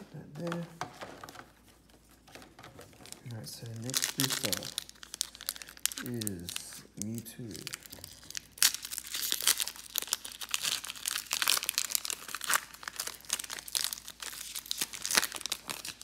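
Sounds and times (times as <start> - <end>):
foil wrapper tearing and crackling: 3.0 - 16.0.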